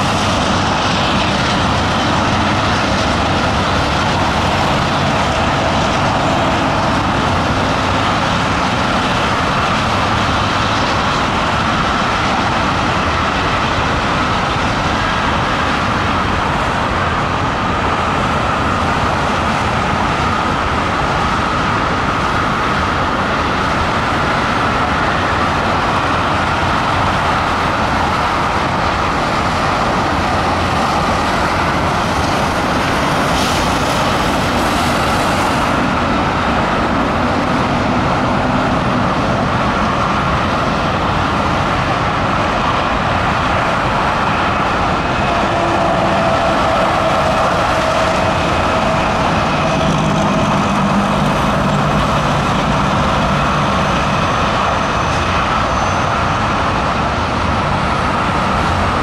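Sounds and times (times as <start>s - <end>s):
freight train rolling past: 0.0s - 59.0s
highway traffic noise: 0.0s - 59.0s.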